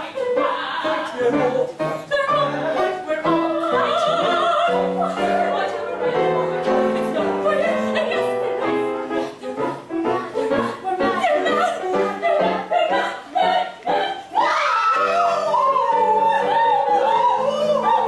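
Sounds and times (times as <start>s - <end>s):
opera singing with accompaniment: 0.0s - 18.0s.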